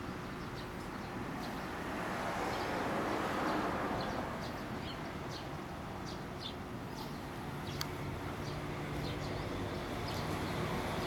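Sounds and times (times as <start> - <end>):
small birds chirping: 0.0 - 11.0
traffic noise: 0.0 - 11.0.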